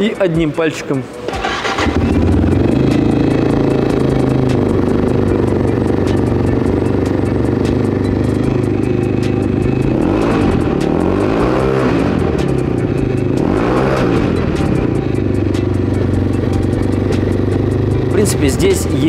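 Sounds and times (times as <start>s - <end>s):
motorcycle engine idling and revving: 1.1s - 19.0s.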